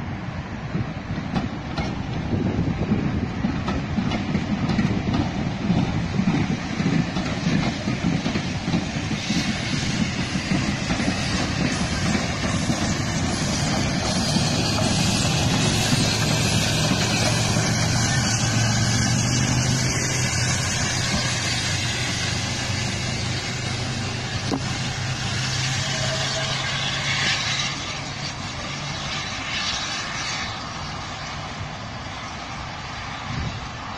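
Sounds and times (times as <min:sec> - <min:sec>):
steam locomotive running: 0:00.0 - 0:33.9.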